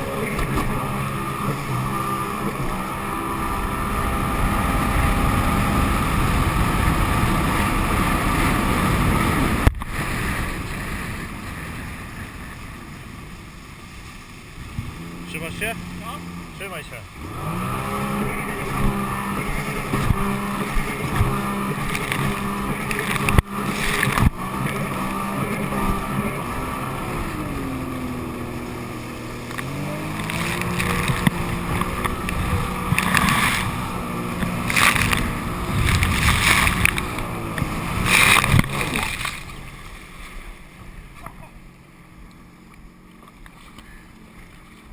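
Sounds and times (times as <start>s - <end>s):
jet ski engine running: 0.0s - 44.9s.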